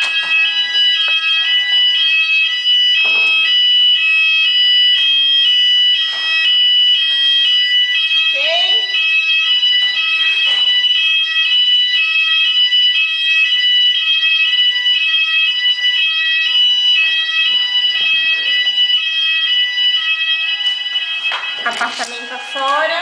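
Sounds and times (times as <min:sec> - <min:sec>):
two-tone fire alarm: 0:00.0 - 0:23.0.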